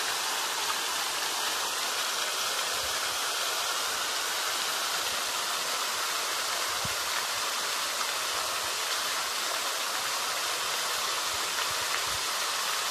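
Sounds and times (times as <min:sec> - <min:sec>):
steady hissy rushing noise: 0:00.0 - 0:12.9.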